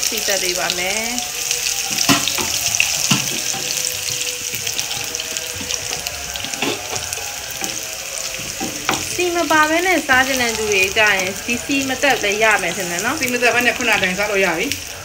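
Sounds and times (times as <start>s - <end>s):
onions sizzling in oil: 0.0s - 15.0s
wooden spoon scraping pan: 2.0s - 14.7s.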